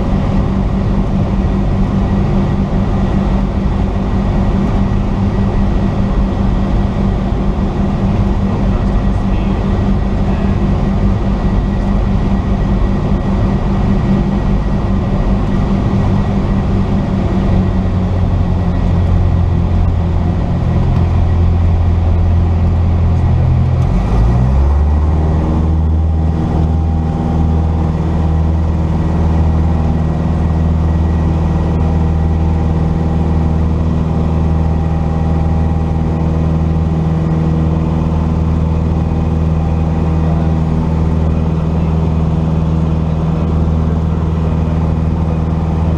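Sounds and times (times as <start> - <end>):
plane engine and propeller droning: 0.0 - 45.9.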